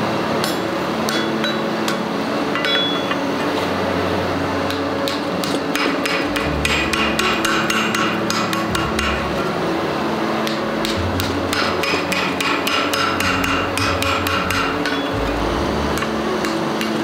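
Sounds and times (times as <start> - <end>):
hammer striking metal on anvil: 0.4 - 3.3, 4.7 - 9.6, 10.4 - 17.0.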